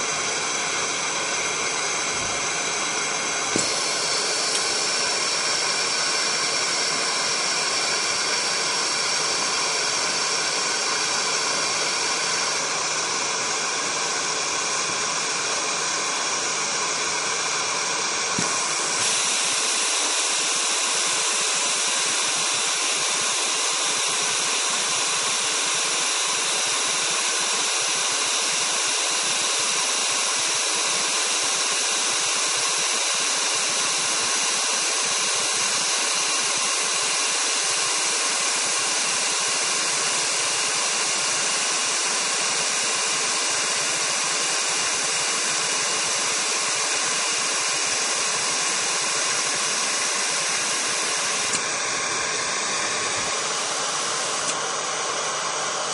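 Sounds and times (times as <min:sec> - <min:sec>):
hot gas hissing from nozzle: 0:00.0 - 0:55.9.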